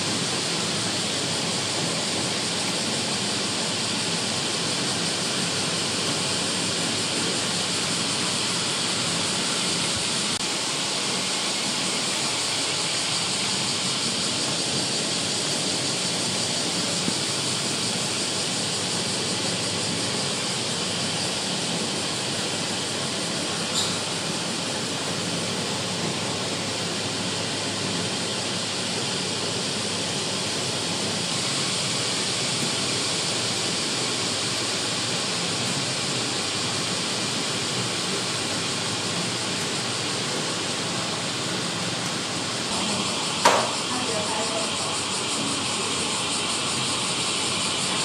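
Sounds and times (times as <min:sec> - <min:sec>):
wind: 0:00.0 - 0:48.0.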